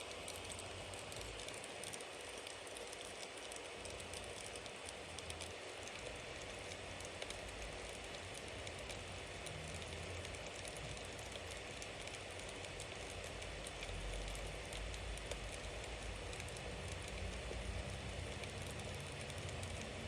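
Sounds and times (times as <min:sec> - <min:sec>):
burning wood crackling and popping: 0:00.0 - 0:20.0.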